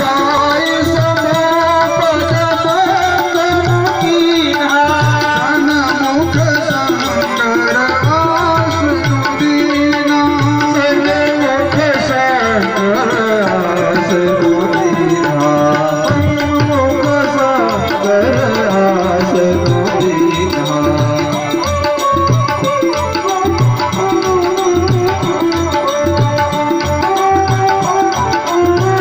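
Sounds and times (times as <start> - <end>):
person singing: 0.0 - 29.0
tabla drumming: 0.0 - 29.0.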